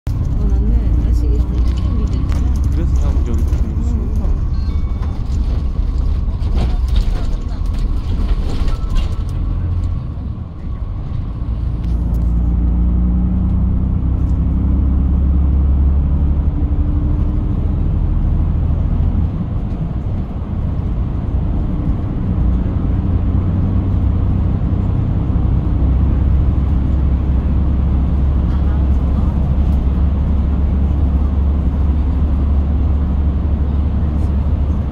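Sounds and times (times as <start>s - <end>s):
bus engine and road noise: 0.0s - 34.9s.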